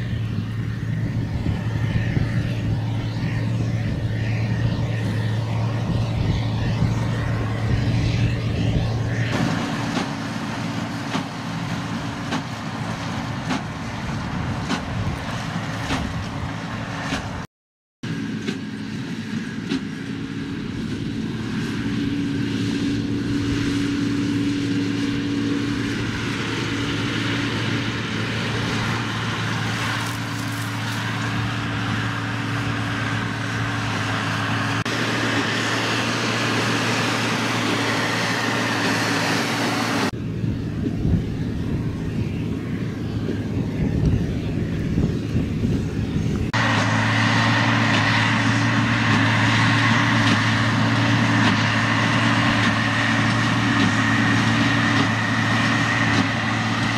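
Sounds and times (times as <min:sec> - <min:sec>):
baler machinery working: 0:00.0 - 0:17.4, 0:18.1 - 0:56.9
tractor diesel engine running: 0:00.0 - 0:17.4, 0:18.1 - 0:56.9.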